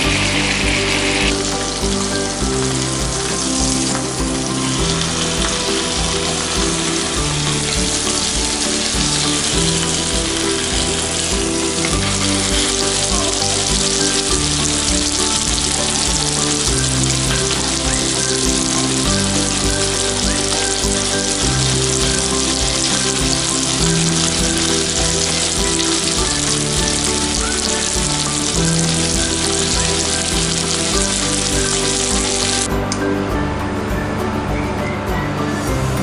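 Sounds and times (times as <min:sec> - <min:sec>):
chicken sizzling in a pan: 0:00.0 - 0:02.9, 0:04.6 - 0:32.7
background music: 0:00.0 - 0:36.0.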